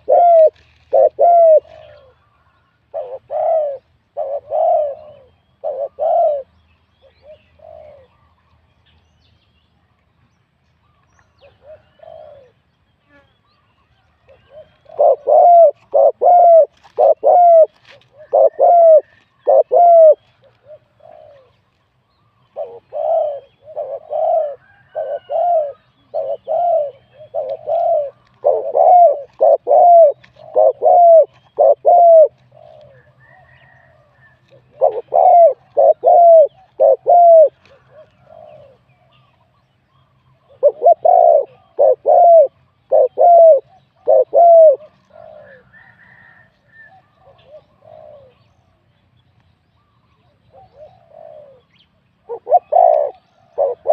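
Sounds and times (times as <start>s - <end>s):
dove cooing: 0.0s - 8.4s, 11.4s - 13.2s, 14.3s - 39.6s, 40.3s - 48.8s, 49.8s - 53.9s.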